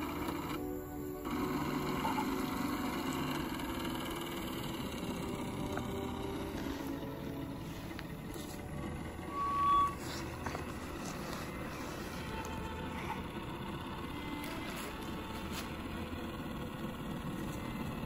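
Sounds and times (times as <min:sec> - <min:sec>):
steam engine running: 0:00.0 - 0:18.0.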